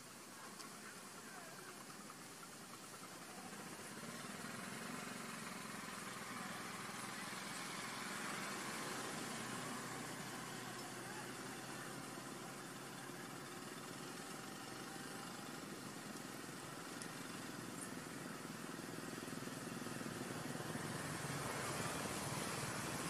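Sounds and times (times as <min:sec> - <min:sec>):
background hum and hiss: 0:00.0 - 0:23.0.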